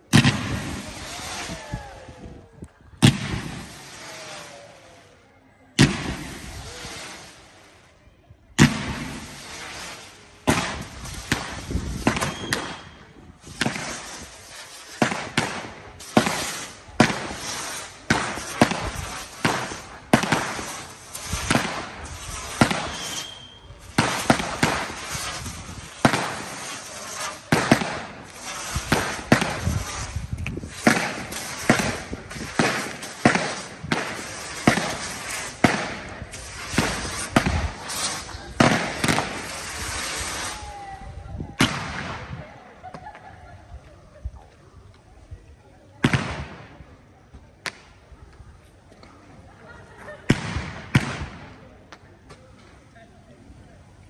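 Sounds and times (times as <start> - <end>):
firework bangs: 0.0 - 4.8, 5.8 - 7.8, 8.6 - 43.2, 46.0 - 46.9, 50.2 - 51.7
firework crackle: 0.0 - 54.0.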